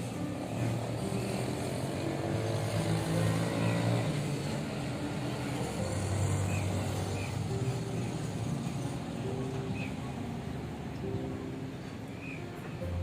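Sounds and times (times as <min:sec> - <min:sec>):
vehicle engines passing: 0:00.0 - 0:13.0.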